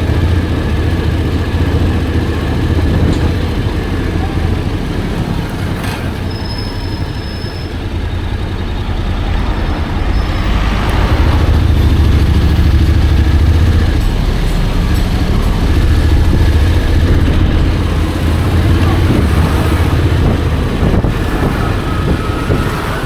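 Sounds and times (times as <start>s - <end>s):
wind rumble: 0.0s - 5.8s, 6.9s - 23.0s
motorcycle engine rumble: 0.0s - 23.0s.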